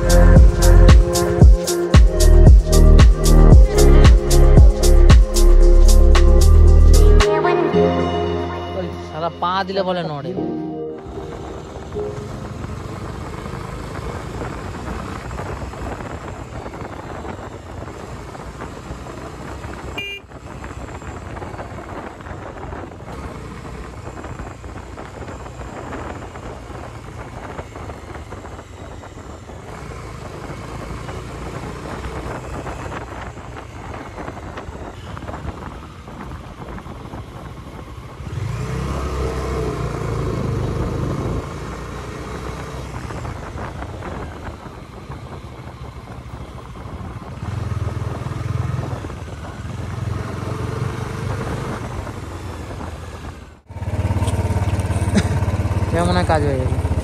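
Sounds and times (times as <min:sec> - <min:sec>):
motorcycle engine running: 0:00.0 - 0:07.2, 0:11.8 - 0:57.0.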